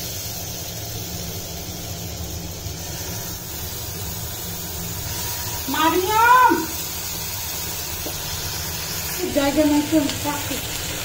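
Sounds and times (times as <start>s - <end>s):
butter sizzling and bubbling: 0.0s - 11.0s
steady low hum: 0.0s - 11.0s.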